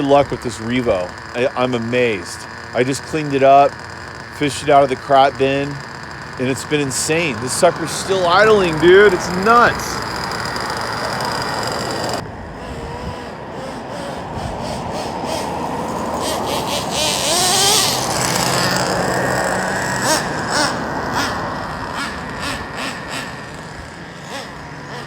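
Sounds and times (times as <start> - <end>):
rc truck engine running: 0.0 - 25.0.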